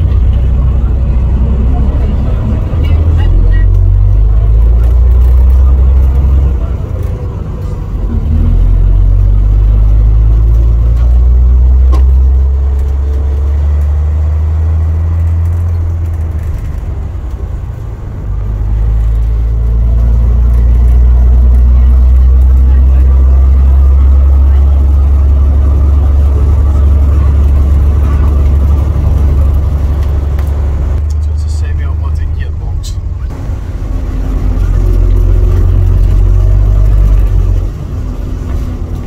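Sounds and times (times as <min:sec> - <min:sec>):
bus engine deep rumble: 0:00.0 - 0:39.0.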